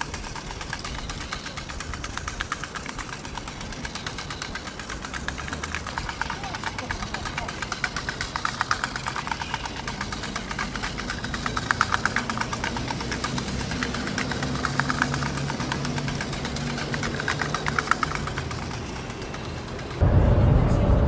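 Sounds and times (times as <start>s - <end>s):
rapid clattering knock: 0.0s - 20.0s
small engine running: 0.0s - 20.8s.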